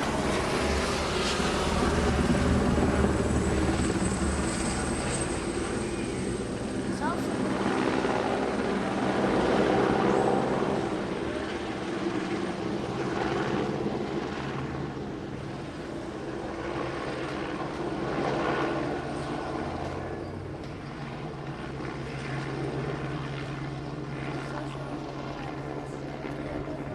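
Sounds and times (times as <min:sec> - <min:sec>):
helicopter rotor and turbine drone: 0:00.0 - 0:26.9.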